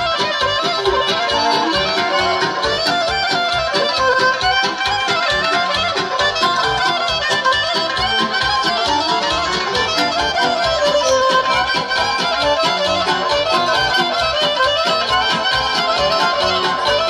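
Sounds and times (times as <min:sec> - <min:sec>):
folk band music over loudspeakers: 0:00.0 - 0:17.0.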